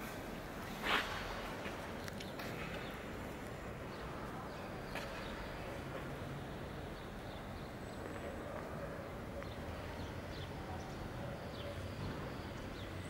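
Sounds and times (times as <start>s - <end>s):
ambient background noise: 0.0s - 13.0s.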